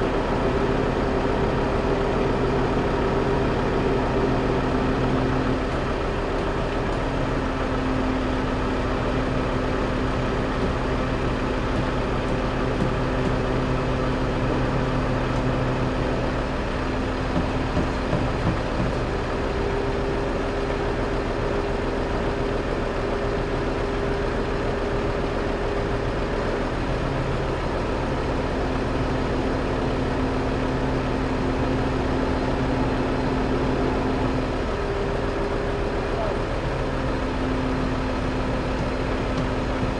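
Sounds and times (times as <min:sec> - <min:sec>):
steady motor hum: 0:00.0 - 0:39.9.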